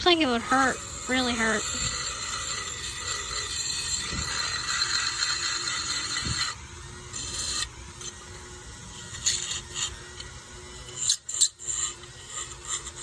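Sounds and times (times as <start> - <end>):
wire brush scraping sheet metal: 0.0 - 13.0.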